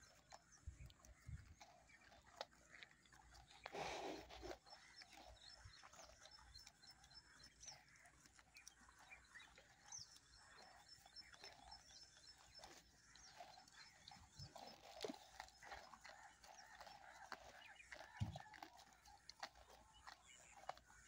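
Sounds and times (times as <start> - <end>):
grass being torn and chewed: 0.0 - 21.0.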